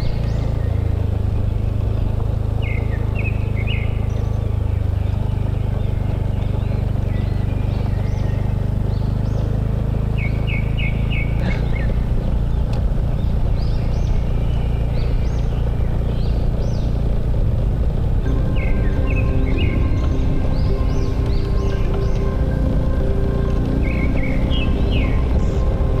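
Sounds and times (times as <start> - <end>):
birds chirping: 0.0 - 26.0
road and wind noise: 0.0 - 26.0
small motorbike engine running: 0.0 - 26.0.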